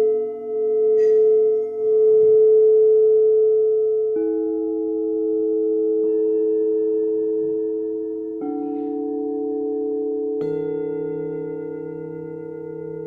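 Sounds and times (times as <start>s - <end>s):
singing bowls ringing: 0.0s - 13.0s.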